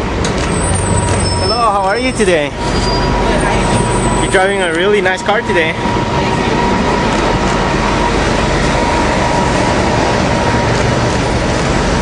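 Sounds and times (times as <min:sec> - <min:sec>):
heavy vehicle engine running: 0:00.0 - 0:12.0
street traffic rumble: 0:00.0 - 0:12.0.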